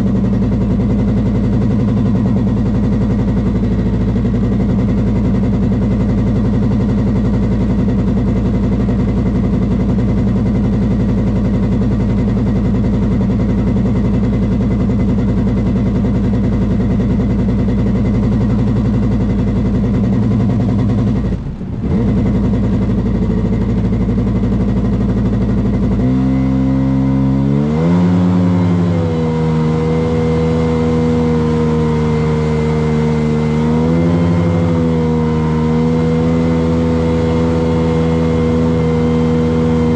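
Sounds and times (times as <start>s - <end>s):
motorboat engine revving: 0.0s - 39.9s.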